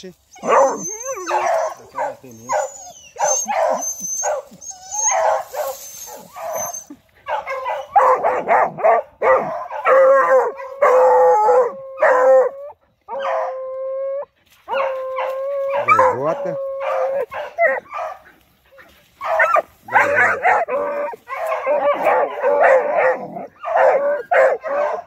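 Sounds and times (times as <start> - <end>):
hounds barking and baying: 0.3 - 25.0
hounds howling: 0.3 - 25.0.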